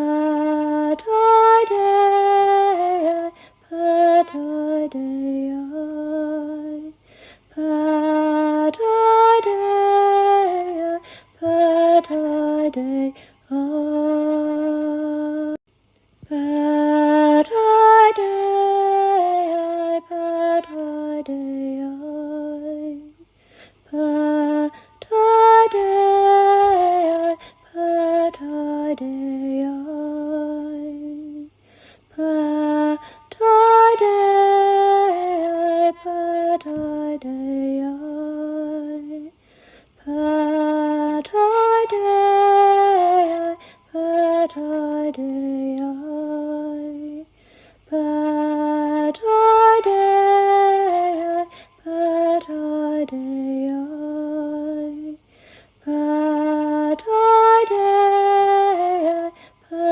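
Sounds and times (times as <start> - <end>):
woman singing unaccompanied: 0.0 - 59.9.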